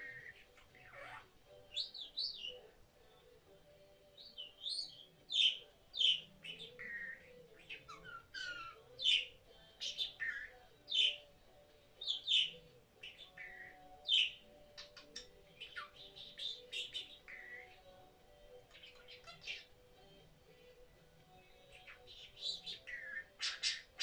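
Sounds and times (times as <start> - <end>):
budgerigar chirping and warbling: 0.0 - 2.7, 4.2 - 11.4, 12.0 - 19.8, 21.4 - 24.0.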